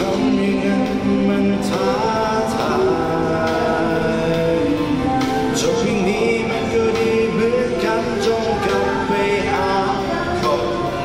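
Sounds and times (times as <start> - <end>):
backing music: 0.0 - 11.0
man singing karaoke: 0.0 - 11.0.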